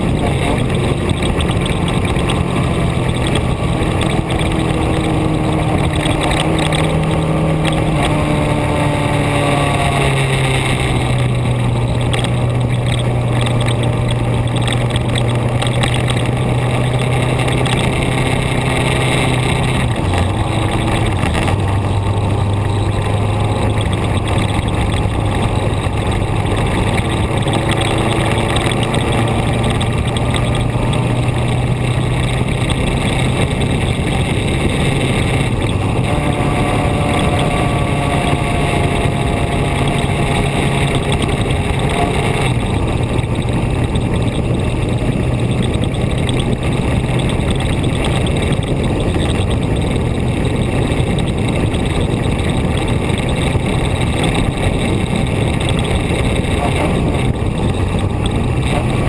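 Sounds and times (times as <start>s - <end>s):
vehicle engine hum: 0.0s - 59.0s
wind and road noise: 0.0s - 59.0s.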